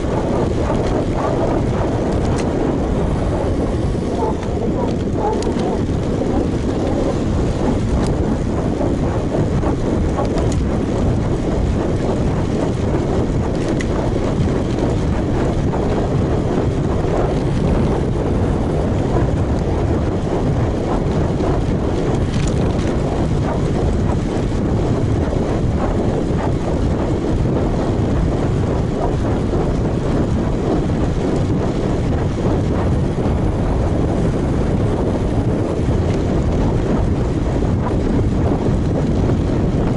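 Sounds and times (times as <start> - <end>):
bike tyre noise on road: 0.0 - 39.9
wind rushing over microphone: 0.0 - 39.9.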